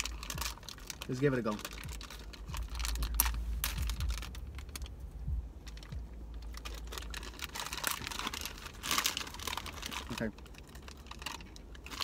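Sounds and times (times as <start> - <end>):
plastic bag crinkling and tearing: 0.0 - 5.0, 5.6 - 12.0
low steady rumble: 0.0 - 12.0.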